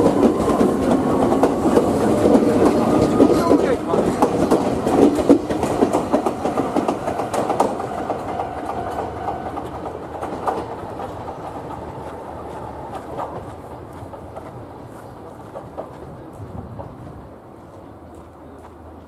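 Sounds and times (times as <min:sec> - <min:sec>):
electric train pulling away: 0:00.0 - 0:15.3
wheels clacking over rails: 0:00.0 - 0:17.1.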